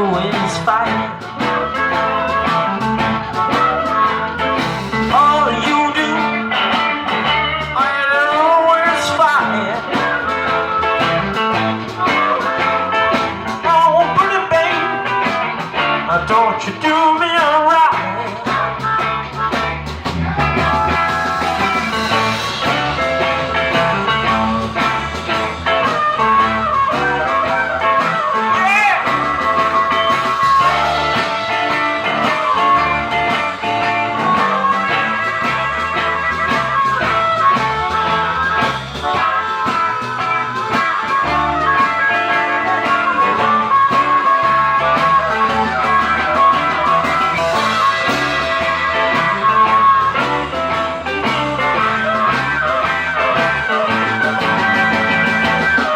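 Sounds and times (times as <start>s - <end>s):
drums: 0.0s - 55.9s
electric guitar bending notes: 0.0s - 55.9s
walking bass line: 0.0s - 55.9s.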